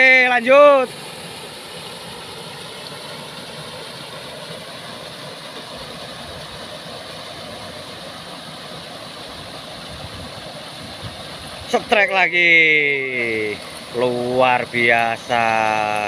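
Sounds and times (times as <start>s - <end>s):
water rushing over weir: 0.0s - 16.0s.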